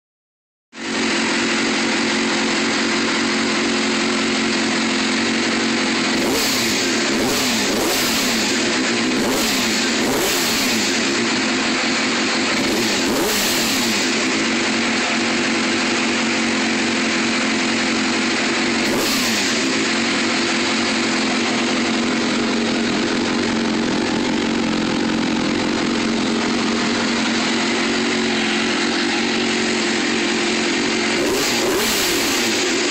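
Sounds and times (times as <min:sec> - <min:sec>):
motorcycle engine revving: 0:00.8 - 0:32.9.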